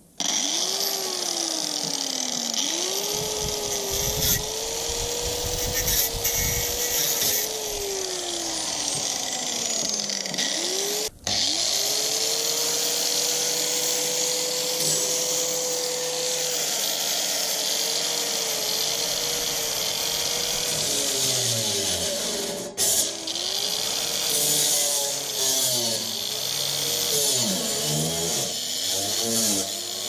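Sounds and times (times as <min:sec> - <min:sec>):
angle grinder motor whine: 0:00.2 - 0:30.0
cutting disc biting steel sheet: 0:00.2 - 0:30.0.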